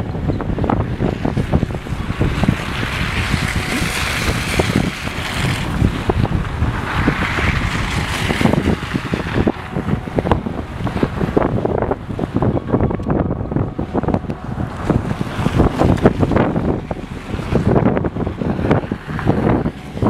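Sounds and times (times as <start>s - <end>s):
cars passing on snowy road: 0.0s - 20.0s
wind buffeting microphone: 0.0s - 20.0s.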